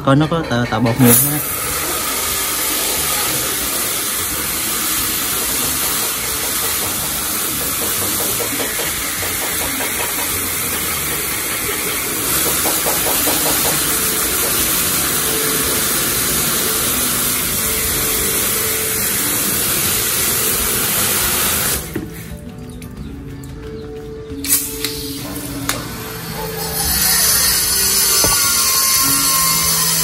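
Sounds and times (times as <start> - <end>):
hose water jet spraying into bucket: 1.0 - 22.3, 24.5 - 30.0.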